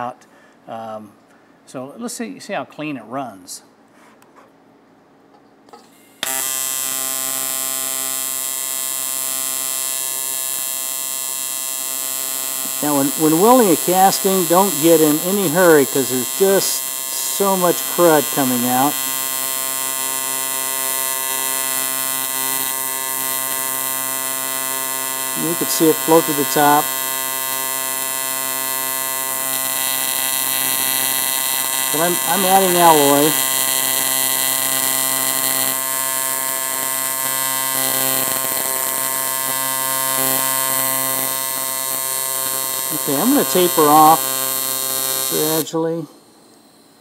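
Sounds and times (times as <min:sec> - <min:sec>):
welding arc buzzing: 0:05.8 - 0:47.0.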